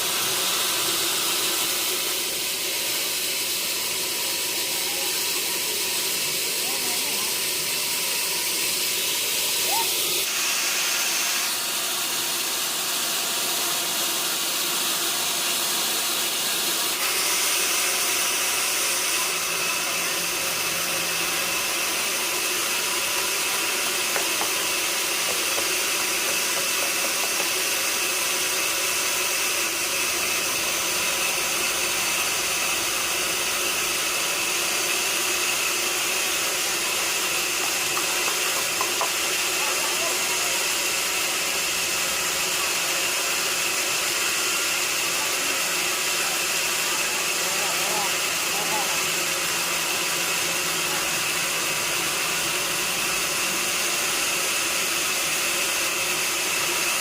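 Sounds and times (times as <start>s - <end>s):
saw cutting wood: 0.0s - 57.0s.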